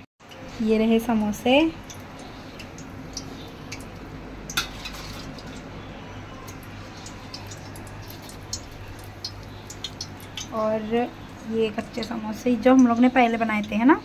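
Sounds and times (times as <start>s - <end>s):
samosas sizzling in hot oil: 0.3s - 14.0s.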